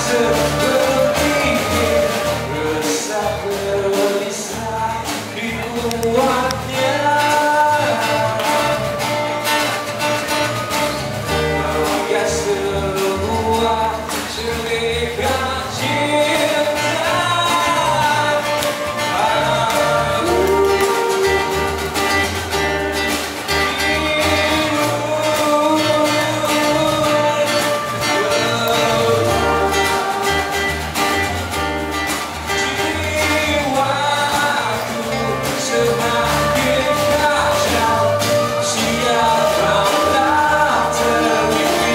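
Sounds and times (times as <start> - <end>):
man singing: 0.0 - 31.6, 32.4 - 41.9
drums: 0.0 - 41.9
strummed acoustic guitars: 0.0 - 41.9.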